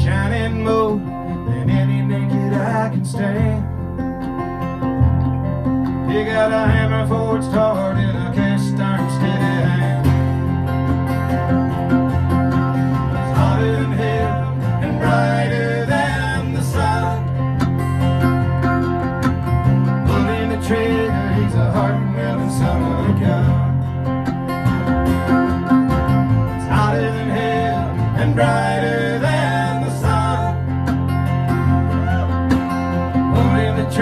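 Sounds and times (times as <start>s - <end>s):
acoustic guitars strumming: 0.0s - 34.0s
electric bass: 0.0s - 34.0s
mandolin picking melody: 0.0s - 34.0s.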